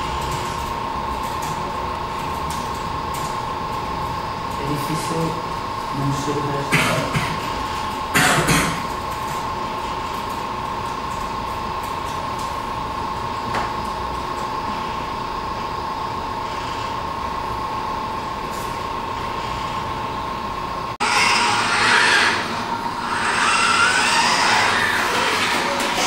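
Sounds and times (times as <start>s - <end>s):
machine hum with high whine: 0.0s - 26.0s.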